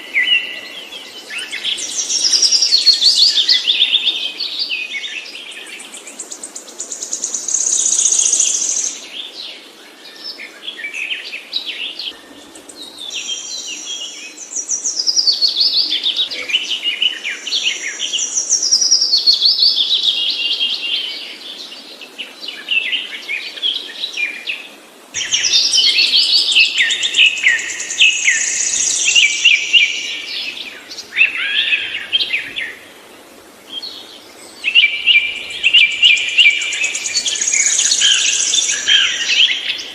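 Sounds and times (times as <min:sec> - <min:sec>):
songbird singing trills: 0:00.0 - 0:09.3, 0:10.1 - 0:21.8, 0:25.2 - 0:32.9, 0:33.6 - 0:39.9.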